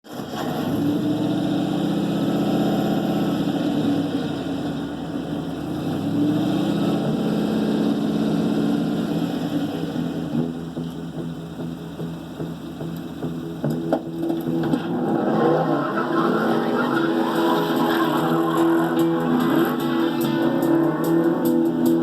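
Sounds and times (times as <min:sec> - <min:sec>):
loud lumpy engine exhaust: 0:00.1 - 0:22.0.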